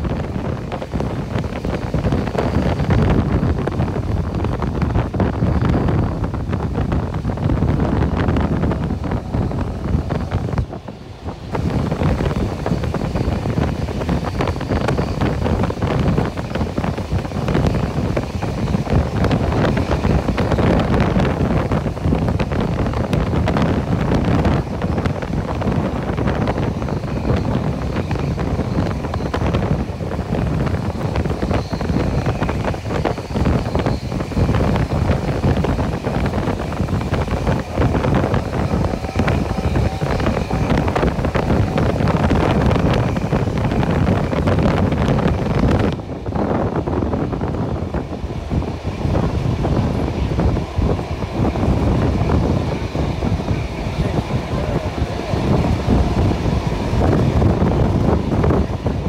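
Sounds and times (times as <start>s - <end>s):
train running noise: 0.0s - 59.0s
wind buffeting microphone: 0.0s - 59.0s.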